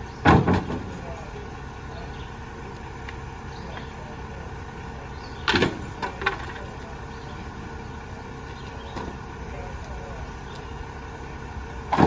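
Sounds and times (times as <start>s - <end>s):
garbage truck engine running: 0.0s - 12.0s.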